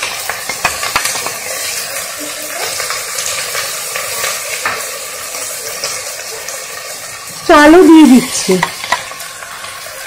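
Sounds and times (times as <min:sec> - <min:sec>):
lentils sizzling in oil: 0:00.0 - 0:10.0.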